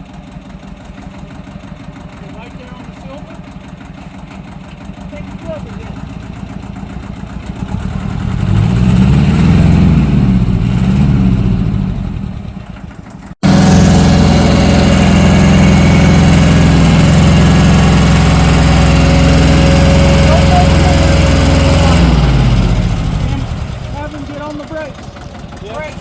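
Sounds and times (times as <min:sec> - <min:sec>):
tractor engine revving: 0:00.0 - 0:26.0
engine running loudly: 0:02.1 - 0:26.0.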